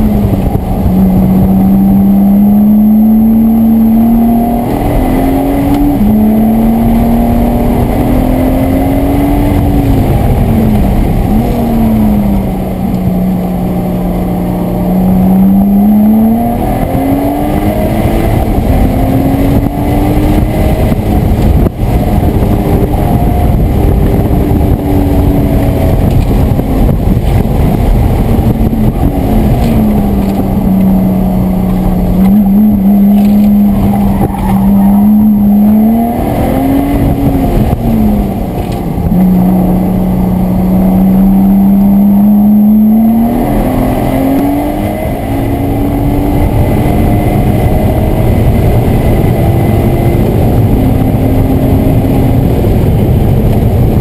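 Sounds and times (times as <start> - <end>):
car engine revving: 0.0 - 54.0
road and wind noise: 0.0 - 54.0.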